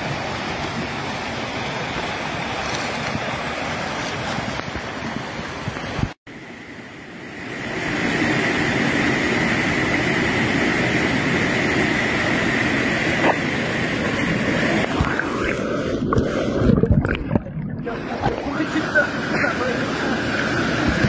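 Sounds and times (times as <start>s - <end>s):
rushing stream and waterfall: 0.0s - 21.0s.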